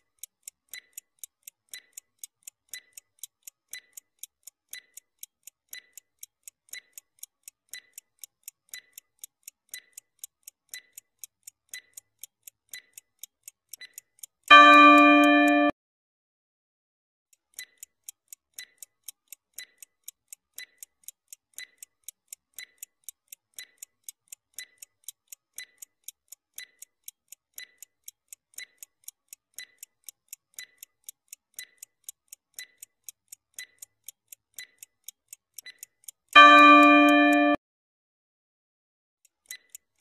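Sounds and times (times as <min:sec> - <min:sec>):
clock ticking: 0:00.0 - 0:15.7, 0:17.3 - 0:37.6, 0:39.3 - 0:40.0.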